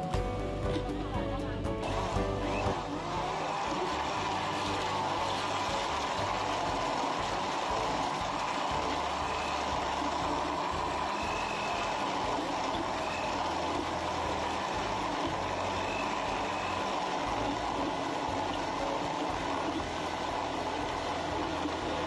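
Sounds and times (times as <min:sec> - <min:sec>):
blender churning ice: 0:01.8 - 0:22.0.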